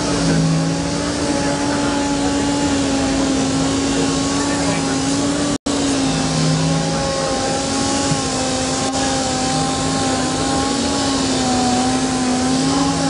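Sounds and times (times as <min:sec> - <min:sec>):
air hissing: 0:00.0 - 0:13.0
air sander whining: 0:00.0 - 0:13.0.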